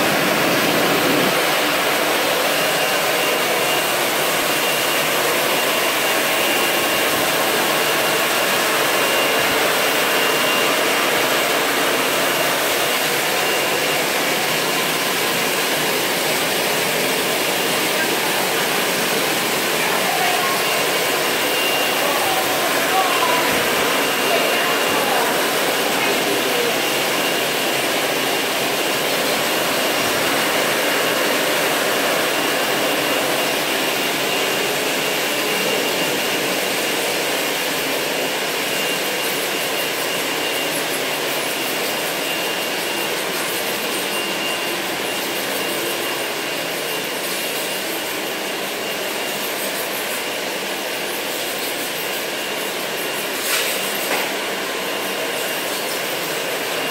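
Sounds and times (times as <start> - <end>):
thin high whine: 0.0 - 56.9.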